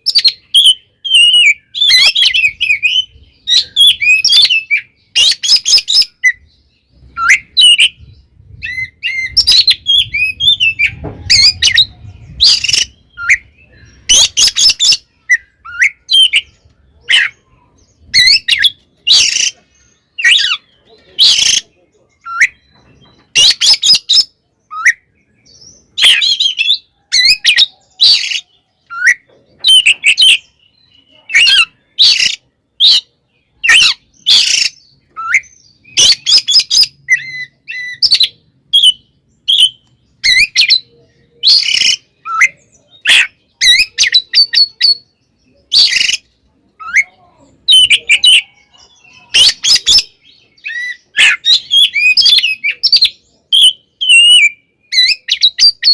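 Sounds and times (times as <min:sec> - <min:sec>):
bird singing harsh chatter: 0:00.0 - 0:55.9.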